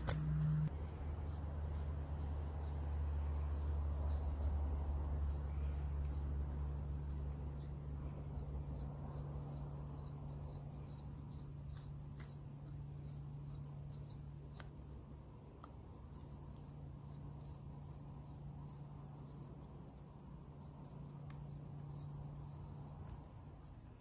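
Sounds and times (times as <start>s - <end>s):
knife shaving wood: 0.0s - 24.0s
steady low hum: 0.0s - 24.0s.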